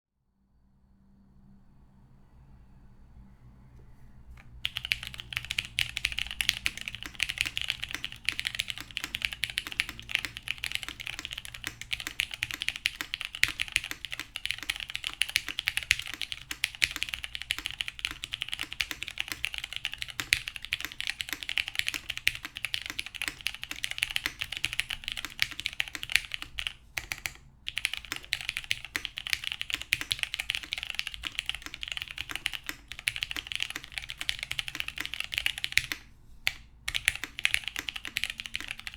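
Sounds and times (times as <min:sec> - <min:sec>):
fast typing on mechanical keyboard: 0:04.6 - 0:38.9.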